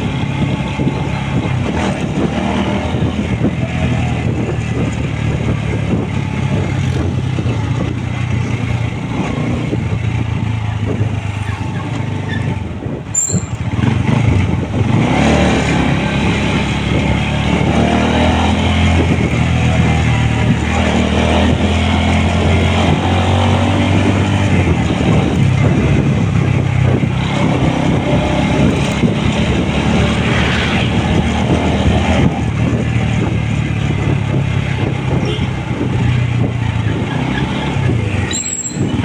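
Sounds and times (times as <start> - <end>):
road and wind noise: 0.0 - 39.0.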